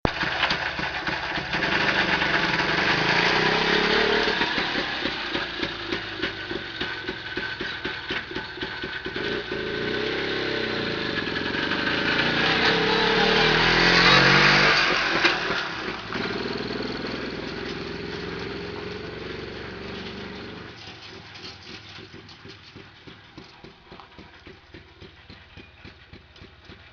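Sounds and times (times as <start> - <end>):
two-stroke engine revving: 0.1 - 26.9.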